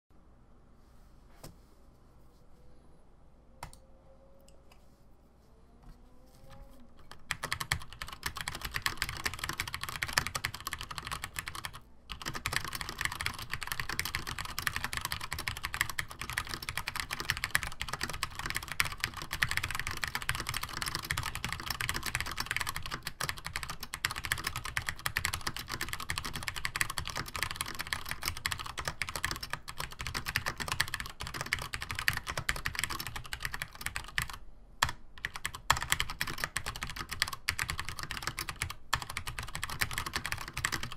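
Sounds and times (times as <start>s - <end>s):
rapid keyboard typing: 7.0s - 40.9s.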